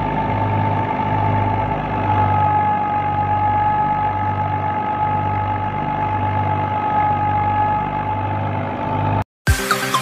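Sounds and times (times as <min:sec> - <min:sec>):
tractor diesel engine running: 0:00.0 - 0:09.2
high-pitched whine: 0:00.0 - 0:10.0.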